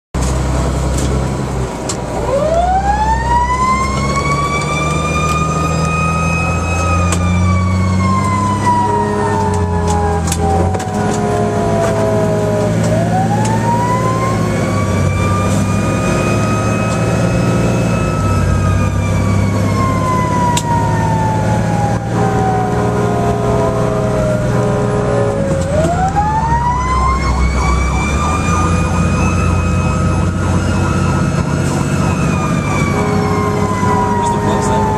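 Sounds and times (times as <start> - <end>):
truck engine: 0.2 - 34.9
fire engine siren wailing: 0.4 - 34.9.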